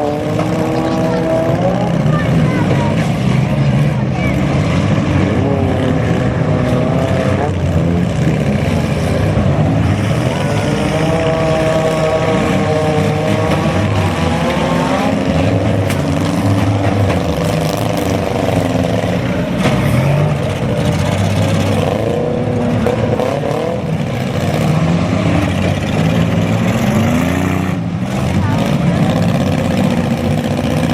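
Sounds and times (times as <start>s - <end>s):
car engines revving: 0.0s - 30.9s.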